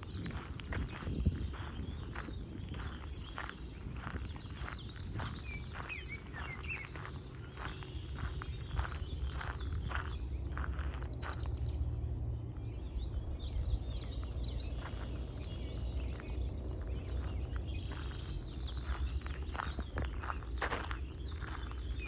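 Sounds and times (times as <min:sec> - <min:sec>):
footsteps crunching on path: 0:00.0 - 0:11.9, 0:13.6 - 0:22.0
songbirds chirping and singing: 0:00.0 - 0:22.0
steady low rumble: 0:00.0 - 0:22.0.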